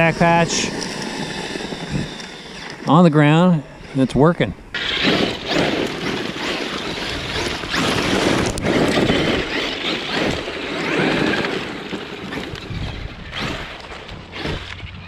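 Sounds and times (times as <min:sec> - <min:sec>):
rc truck tires churning gravel: 0:00.0 - 0:15.0.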